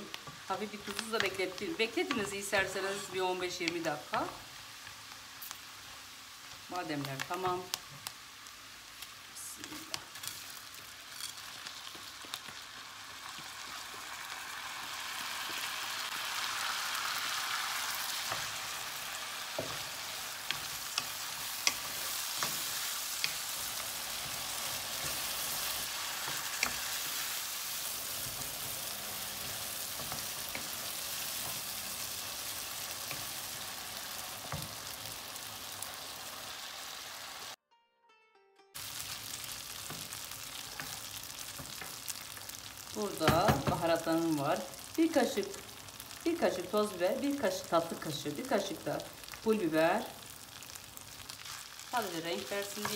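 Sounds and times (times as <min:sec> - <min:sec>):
rice sizzling in hot oil: 0:00.0 - 0:37.6, 0:38.8 - 0:52.9.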